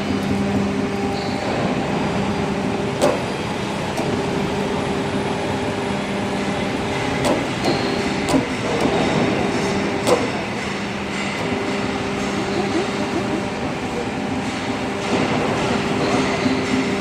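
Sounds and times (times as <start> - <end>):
hydraulic power unit hum: 0.0 - 17.0.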